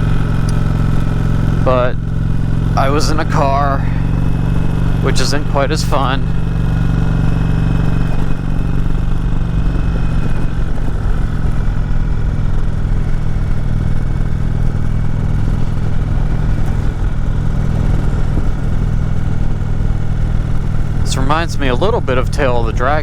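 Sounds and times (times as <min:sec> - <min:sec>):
motorcycle engine running: 0:00.0 - 0:23.0
road noise: 0:00.0 - 0:23.0.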